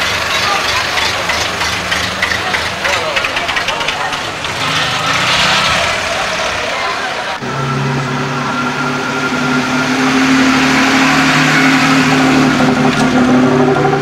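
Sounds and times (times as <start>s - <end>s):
car engine driving past: 0.0s - 14.0s.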